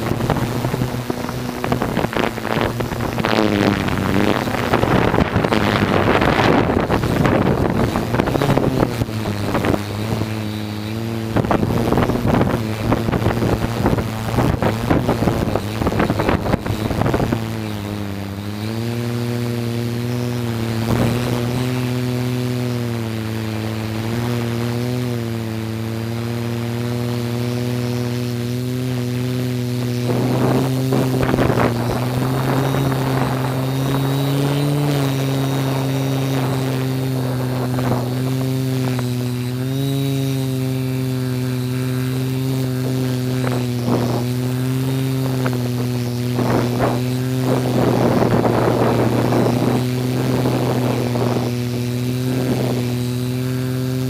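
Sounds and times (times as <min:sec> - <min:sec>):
drone motors humming: 0:00.0 - 0:54.0
wind buffeting microphone: 0:00.0 - 0:54.0.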